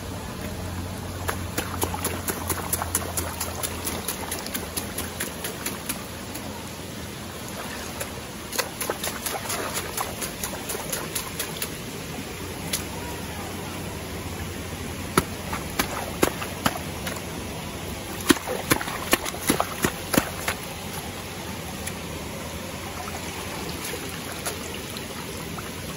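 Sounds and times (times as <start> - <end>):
river water splashing: 0.0 - 25.9.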